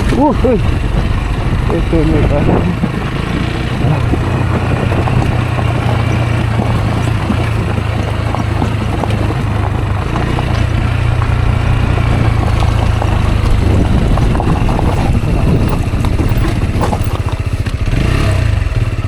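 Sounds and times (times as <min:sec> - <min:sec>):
knocks and rattles: 0:00.0 - 0:17.9
motorcycle engine running: 0:00.0 - 0:19.0.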